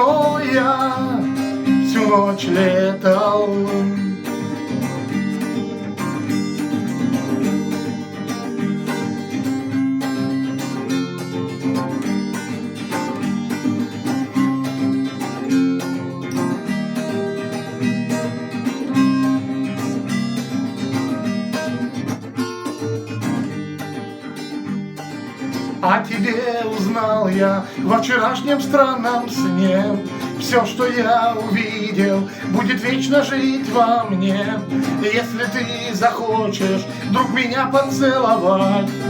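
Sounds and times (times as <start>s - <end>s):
strummed rock guitar: 0.0s - 39.0s.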